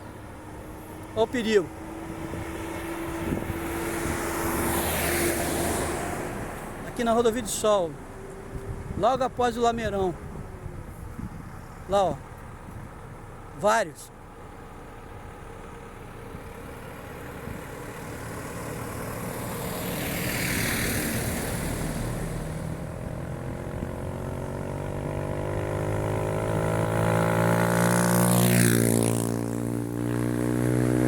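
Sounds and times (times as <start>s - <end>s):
engine hum: 0.0s - 31.0s
vehicles passing on highway: 0.0s - 31.0s.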